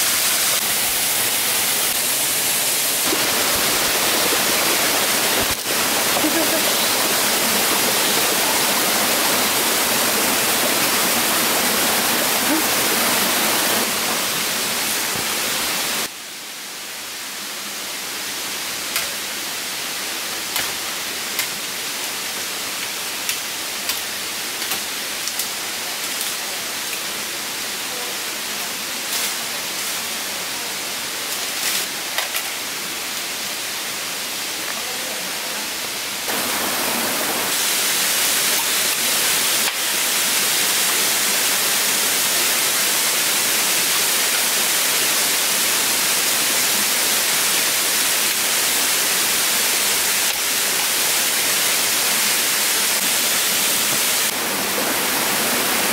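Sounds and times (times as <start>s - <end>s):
rushing forest stream: 0.0s - 55.9s.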